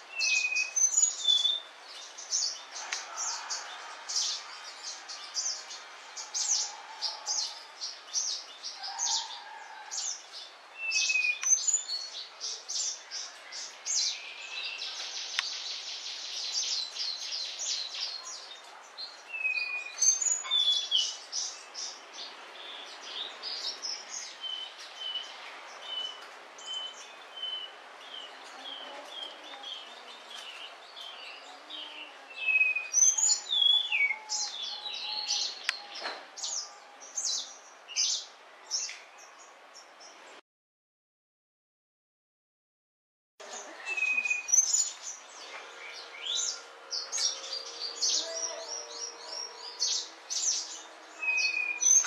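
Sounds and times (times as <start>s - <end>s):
birds chirping and trilling: 0.0s - 40.4s, 43.4s - 52.0s.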